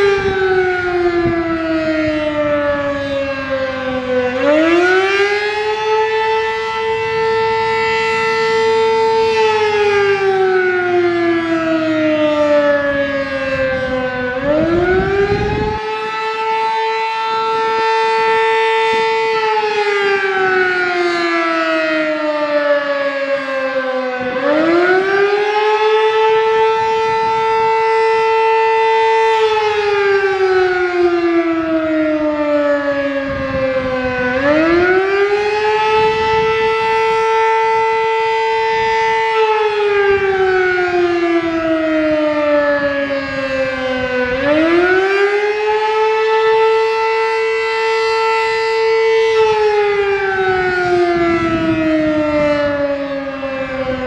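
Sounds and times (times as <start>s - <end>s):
two-tone warning siren: 0.0s - 54.0s.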